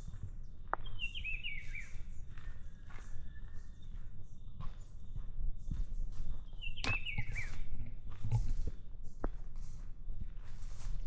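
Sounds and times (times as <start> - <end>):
footsteps on forest trail: 0.0 - 11.0.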